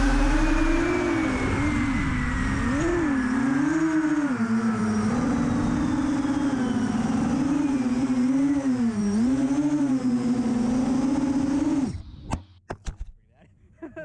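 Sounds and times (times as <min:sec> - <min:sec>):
drone propellers whining: 0:00.0 - 0:12.3.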